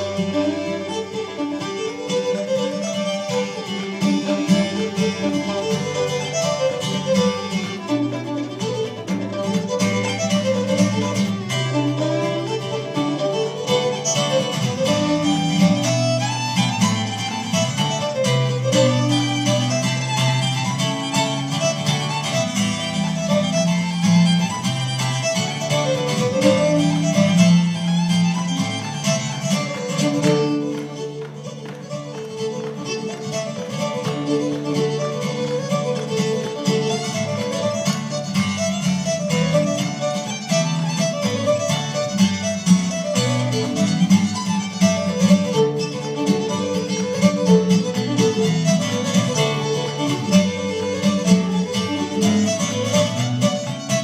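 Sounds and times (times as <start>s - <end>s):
fiddle playing a fast reel: 0.0s - 54.0s
strummed acoustic guitar: 0.0s - 54.0s.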